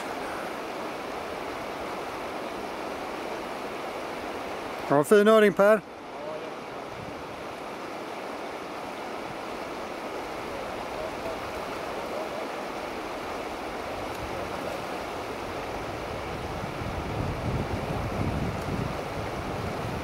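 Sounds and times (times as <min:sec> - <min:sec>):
rush of moving water: 0:00.0 - 0:20.0.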